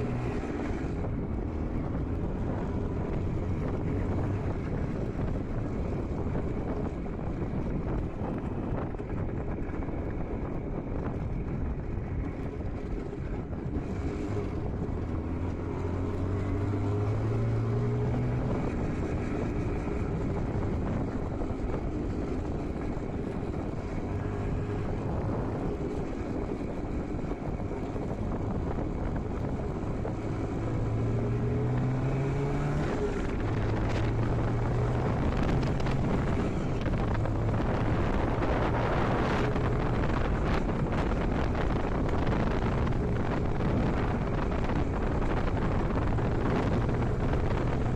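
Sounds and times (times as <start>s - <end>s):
motorcycle engine accelerating: 0.0s - 47.9s
wind on microphone: 0.0s - 47.9s.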